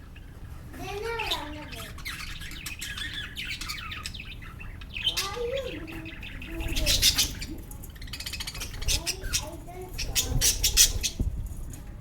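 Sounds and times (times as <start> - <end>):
lovebirds chirping: 0.0 - 11.5.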